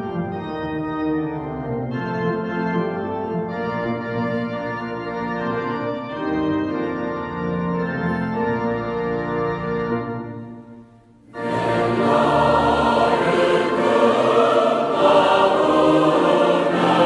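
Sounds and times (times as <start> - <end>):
organ playing hymn chords: 0.0 - 17.0.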